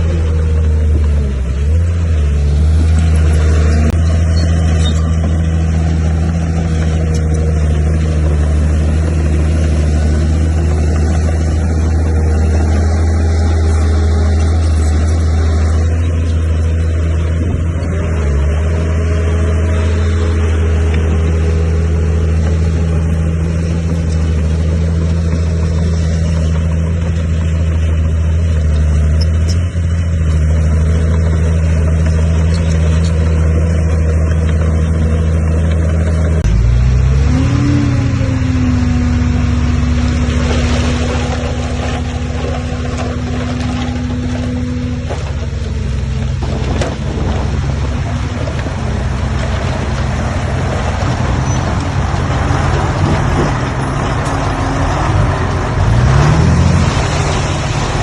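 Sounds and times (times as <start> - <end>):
diesel machinery engine under load: 0.0 - 58.0.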